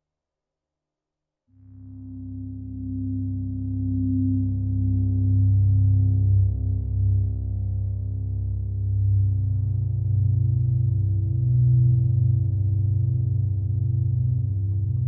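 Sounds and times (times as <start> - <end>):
low synth drone: 1.6 - 15.0.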